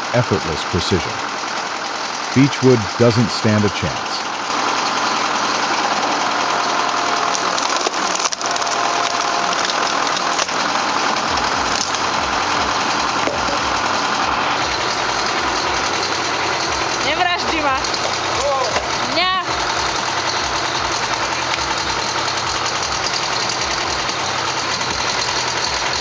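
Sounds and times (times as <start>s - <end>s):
low rhythmic pulsing: 0.0s - 26.0s
wood splitter machinery running: 0.0s - 26.0s
wood crunching and cracking: 4.4s - 26.0s.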